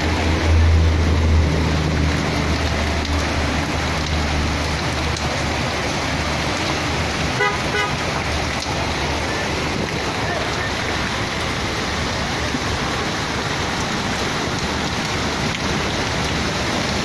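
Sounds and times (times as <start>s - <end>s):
steady rain: 0.0s - 17.0s
vehicle engine rumble: 0.0s - 17.0s.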